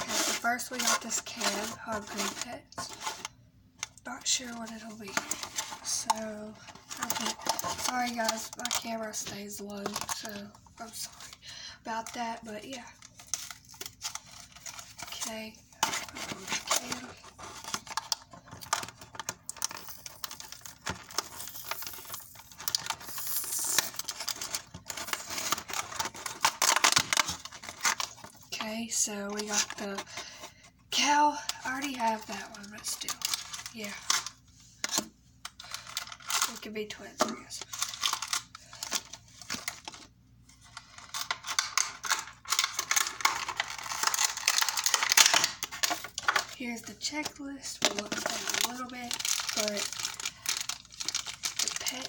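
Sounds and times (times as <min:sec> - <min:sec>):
plastic wrapping crinkling: 0:00.0 - 0:52.0.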